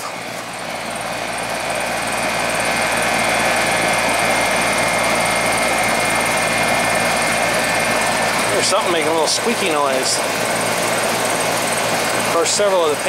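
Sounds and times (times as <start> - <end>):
compressor hum: 0.0 - 13.0
condenser fan whoosh: 0.0 - 13.0.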